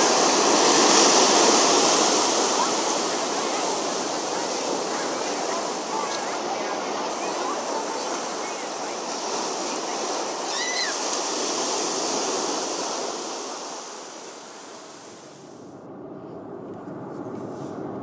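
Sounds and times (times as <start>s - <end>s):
ocean surf breaking on beach: 0.0s - 15.7s.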